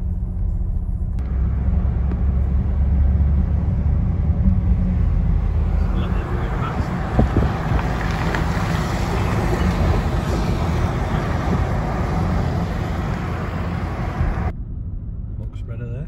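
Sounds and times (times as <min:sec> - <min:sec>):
lorries rumbling past: 0:01.0 - 0:15.4
wind buffeting microphone: 0:01.3 - 0:14.5.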